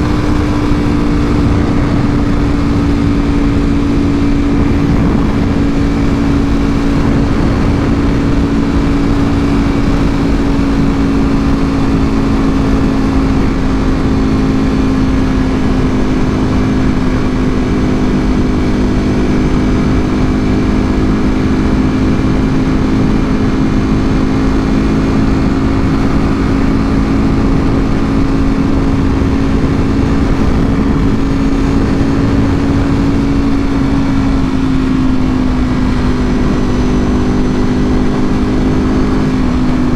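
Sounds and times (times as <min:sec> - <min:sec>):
motorcycle engine at steady speed: 0:00.0 - 0:39.9
wind and road noise: 0:00.0 - 0:39.9.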